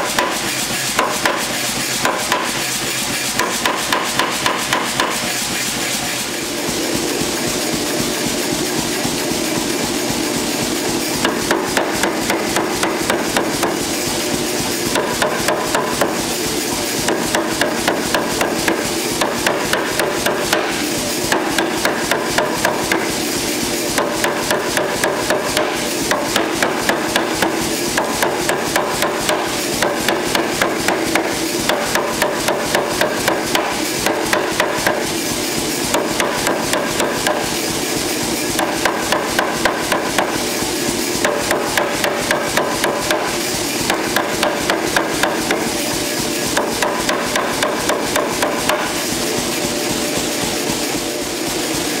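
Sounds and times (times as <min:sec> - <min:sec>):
machine running hum: 0:00.0 - 0:52.0
power hammer striking hot steel: 0:00.0 - 0:52.0.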